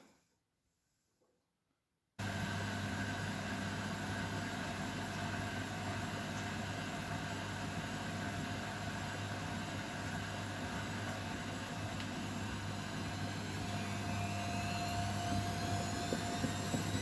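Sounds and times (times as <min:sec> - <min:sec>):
washing machine whirring: 0:02.2 - 0:17.0.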